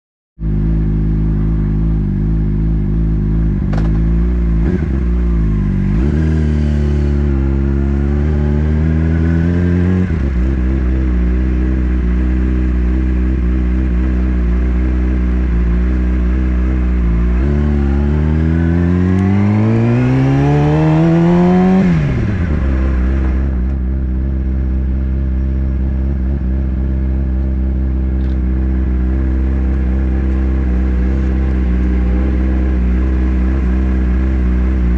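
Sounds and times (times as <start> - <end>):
motorcycle engine revving and idling: 0.4 - 34.9.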